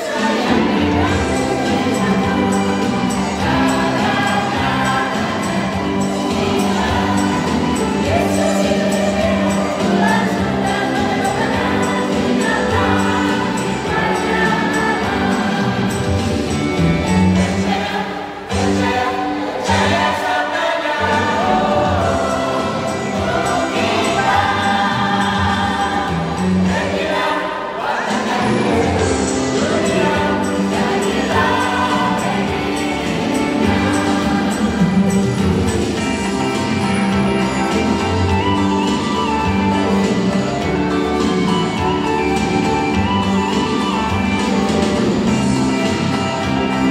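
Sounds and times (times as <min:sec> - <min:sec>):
mixed choir singing in harmony: 0:00.0 - 0:46.9.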